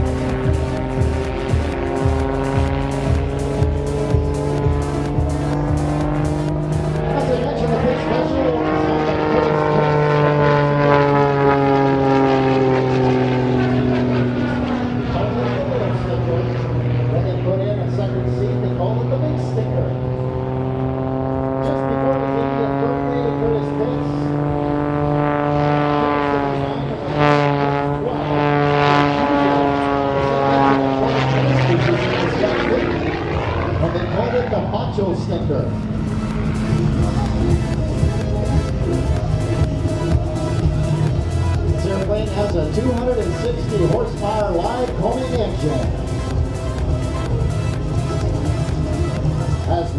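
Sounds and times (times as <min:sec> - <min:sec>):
propeller plane engine: 0:00.0 - 0:49.9.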